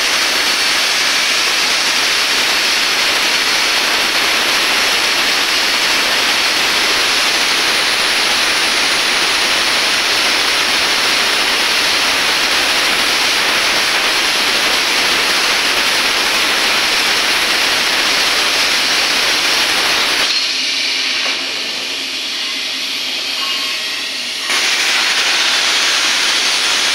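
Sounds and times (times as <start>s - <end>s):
plasma cutter hissing: 0.0s - 26.9s.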